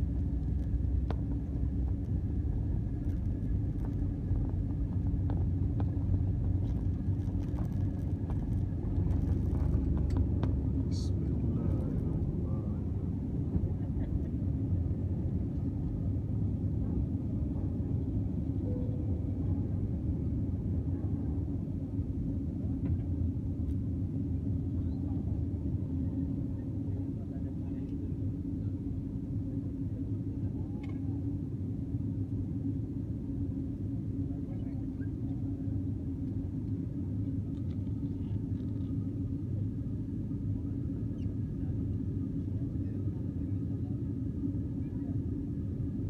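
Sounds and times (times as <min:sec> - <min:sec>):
jet engines rumbling: 0:00.0 - 0:46.0.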